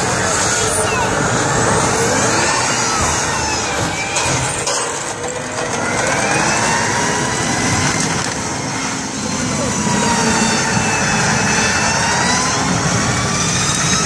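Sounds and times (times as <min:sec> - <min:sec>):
tank turbine engine whine: 0:00.0 - 0:14.0.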